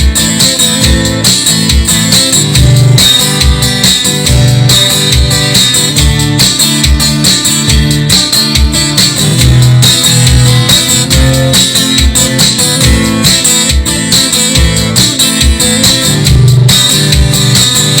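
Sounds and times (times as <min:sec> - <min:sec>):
instrumental guitar music: 0:00.0 - 0:18.0
steady low beat: 0:00.0 - 0:18.0.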